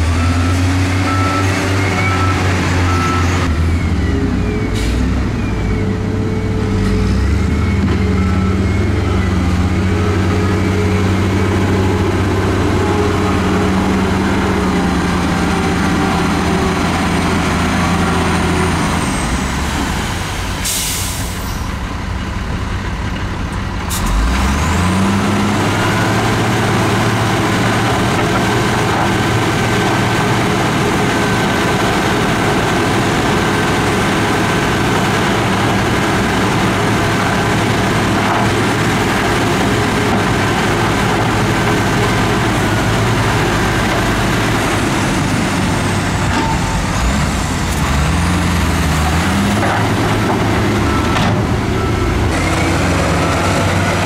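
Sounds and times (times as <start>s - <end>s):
heavy diesel engine revving: 0.0s - 21.4s, 23.7s - 54.0s.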